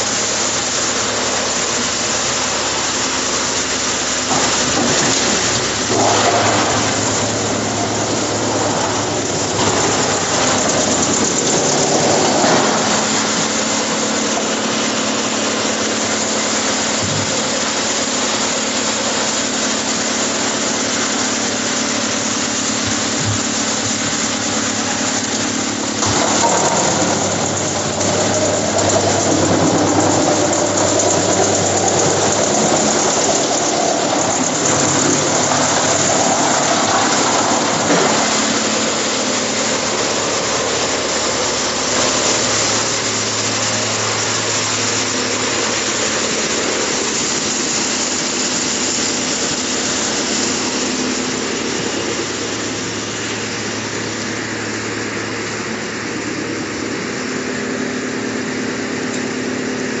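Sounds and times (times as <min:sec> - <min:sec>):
wood chipper running: 0:00.0 - 1:00.0.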